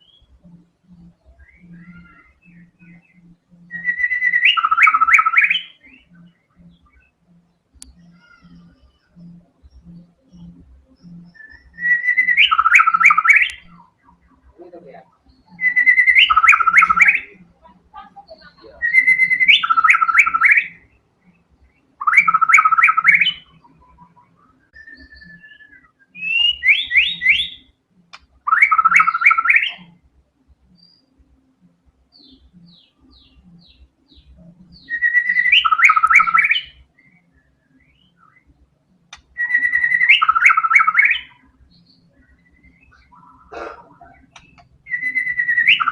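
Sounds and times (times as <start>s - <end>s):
songbird whistling phrases: 0.0s - 21.4s, 22.0s - 27.8s, 28.5s - 30.0s, 32.2s - 38.5s, 39.2s - 45.9s.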